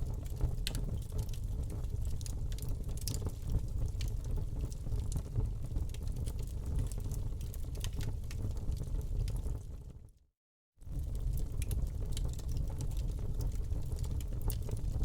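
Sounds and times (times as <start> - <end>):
wood fire crackling: 0.0 - 9.9, 10.9 - 15.0.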